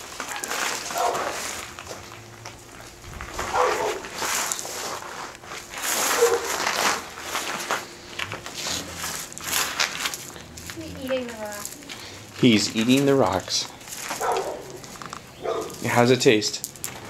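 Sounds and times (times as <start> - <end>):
gravel crunching and rattling: 0.0 - 17.0.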